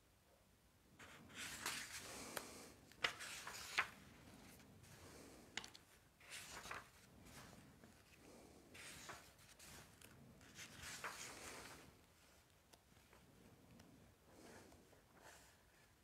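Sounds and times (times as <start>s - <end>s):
faint rustling and handling: 0.9s - 16.0s.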